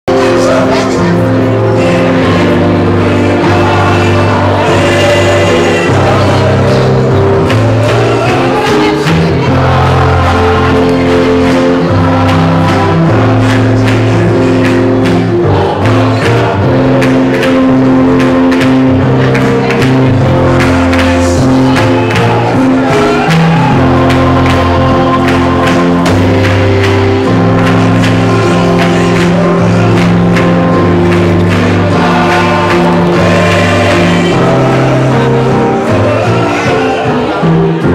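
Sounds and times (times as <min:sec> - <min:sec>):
music with steady beat: 0:00.1 - 0:37.9
people singing: 0:00.1 - 0:37.9.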